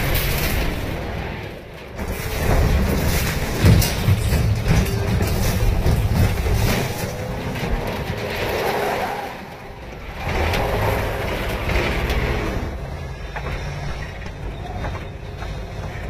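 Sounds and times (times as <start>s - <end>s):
big car engine running hard: 0.0s - 16.0s
car bumping over rough ground: 0.0s - 16.0s.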